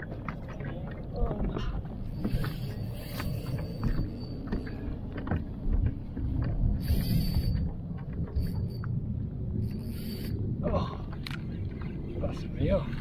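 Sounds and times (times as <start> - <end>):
water noise around kayak: 0.0 - 13.0
wind buffeting microphone: 0.0 - 13.0.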